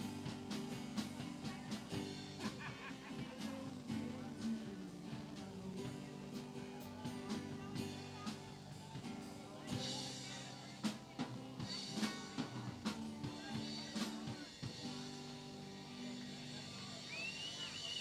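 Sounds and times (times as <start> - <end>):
drum kit beat: 0.0 - 18.0
guitar and bass notes: 0.0 - 18.0.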